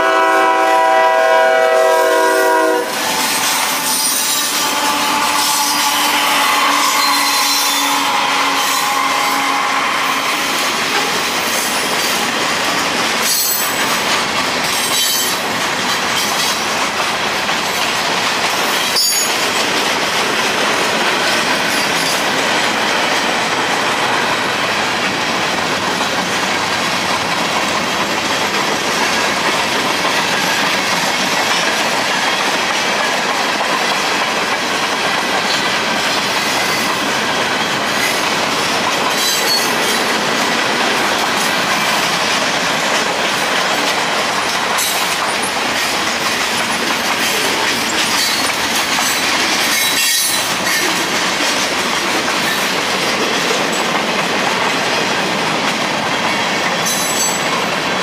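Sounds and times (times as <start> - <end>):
train wheels rushing on rail: 0.0 - 58.0.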